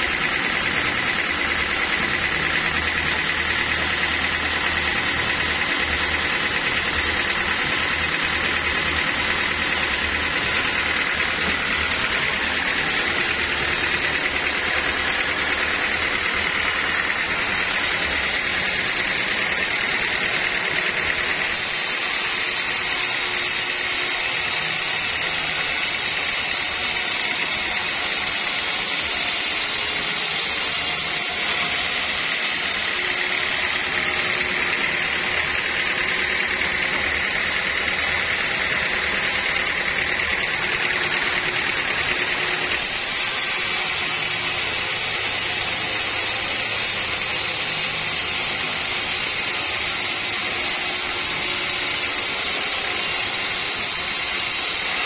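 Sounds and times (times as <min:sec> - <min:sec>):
band saw cutting a log: 0:00.0 - 0:55.0.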